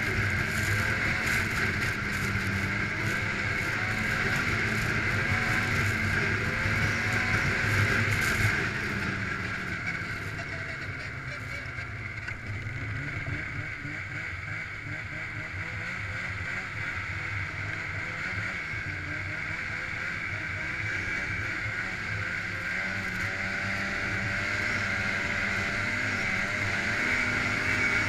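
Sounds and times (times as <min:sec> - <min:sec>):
snowmobile engine drone: 0:00.0 - 0:28.0.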